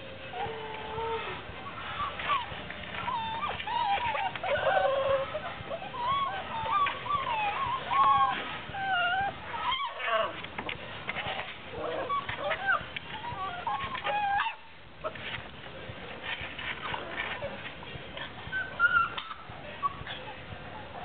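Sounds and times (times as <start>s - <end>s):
puppies whining and squealing: 0.0s - 21.0s
paws scrabbling in wood shavings: 0.3s - 21.0s.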